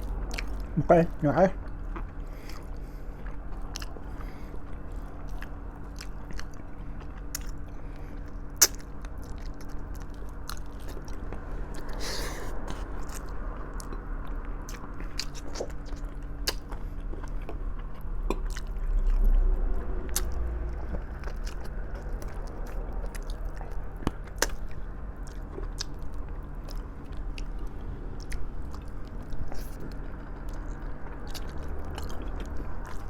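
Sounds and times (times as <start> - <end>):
wet chewing and biting: 0.0 - 0.8, 1.6 - 33.0.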